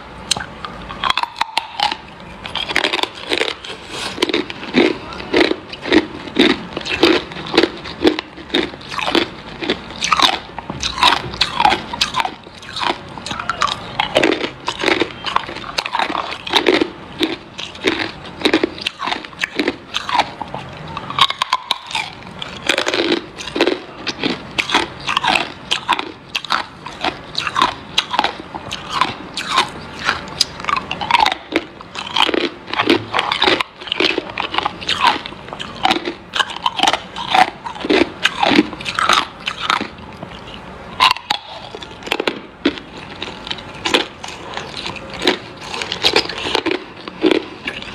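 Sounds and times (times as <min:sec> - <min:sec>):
ice being chewed: 0:00.3 - 0:47.9.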